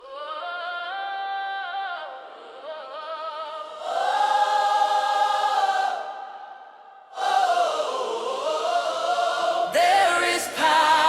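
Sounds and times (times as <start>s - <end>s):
choir singing sustained notes: 0.3s - 11.0s.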